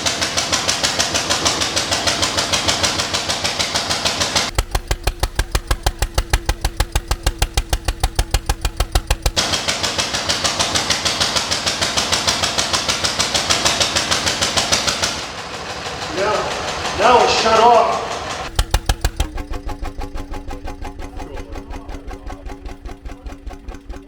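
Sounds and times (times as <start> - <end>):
stationary engine running: 0.0 - 24.0.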